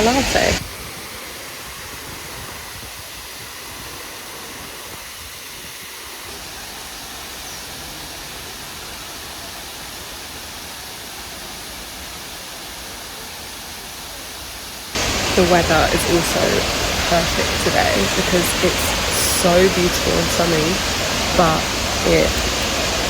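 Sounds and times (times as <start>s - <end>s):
waterfall rushing: 0.0s - 2.7s, 5.9s - 23.0s.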